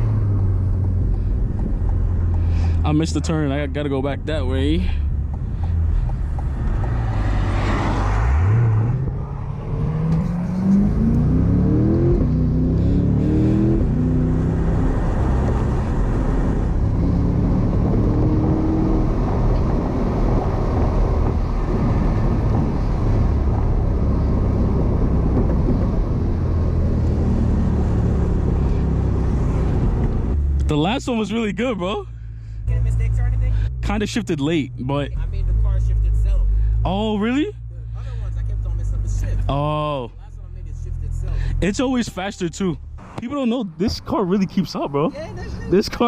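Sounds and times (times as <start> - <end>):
sports car engine accelerating: 0.0 - 40.0.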